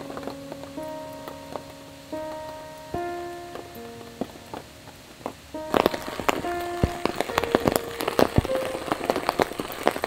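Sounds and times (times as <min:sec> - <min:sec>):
slow keyboard notes: 0:00.0 - 0:10.0.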